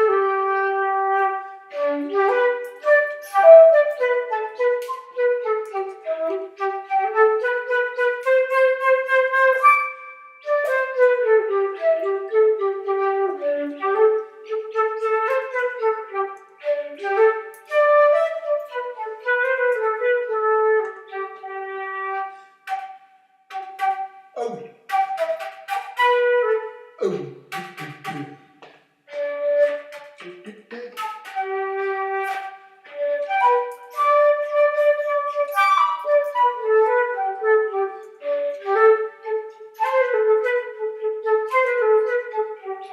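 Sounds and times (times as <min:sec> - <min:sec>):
flute-like melody: 0:00.0 - 0:42.9.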